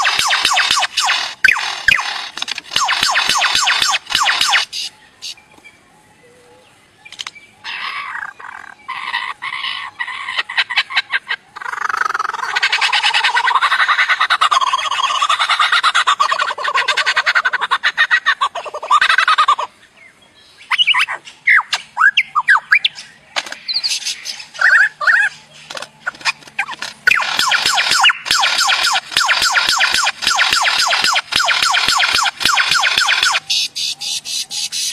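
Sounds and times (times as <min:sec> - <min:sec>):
lyrebird singing: 0:00.0 - 0:34.9.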